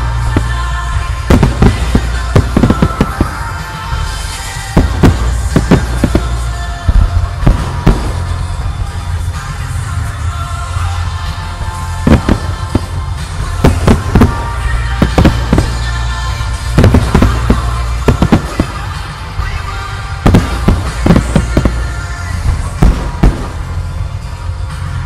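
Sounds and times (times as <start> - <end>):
fireworks bangs: 0.0 - 8.8, 11.9 - 24.0
music playing: 0.0 - 25.0.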